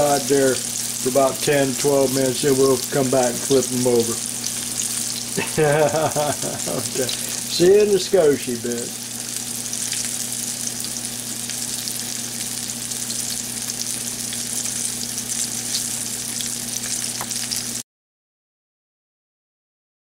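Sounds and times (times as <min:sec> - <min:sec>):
chicken sizzling in hot oil: 0:00.0 - 0:17.8.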